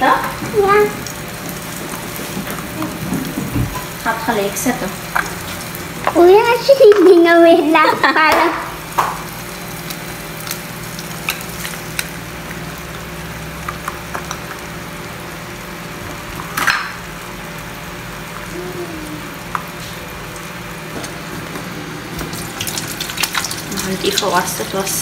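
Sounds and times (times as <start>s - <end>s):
eggs sizzling in frying pan: 0.0s - 25.0s.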